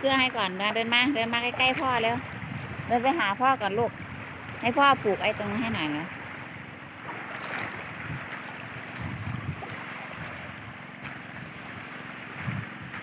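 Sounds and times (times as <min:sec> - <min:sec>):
wind bumping microphone: 0:00.0 - 0:06.1, 0:07.3 - 0:13.0
small waves lapping on shore: 0:00.0 - 0:13.0.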